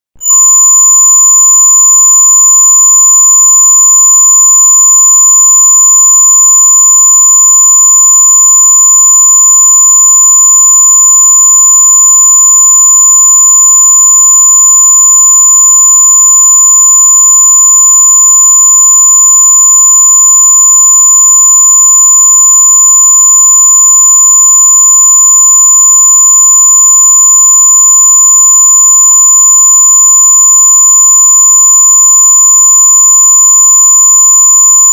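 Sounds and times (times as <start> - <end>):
loud electronic tone with high whine: 0.2 - 34.9.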